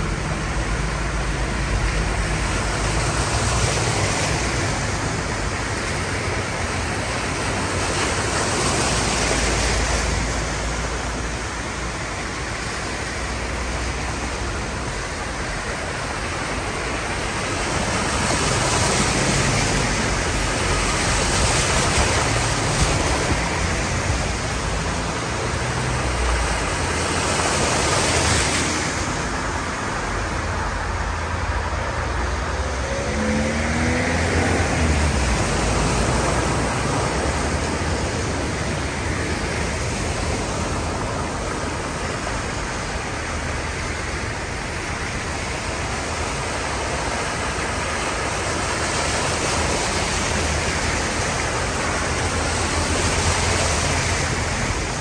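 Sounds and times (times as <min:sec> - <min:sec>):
tyres sloshing through floodwater: 0:00.0 - 0:55.0
vehicle engines: 0:00.0 - 0:55.0.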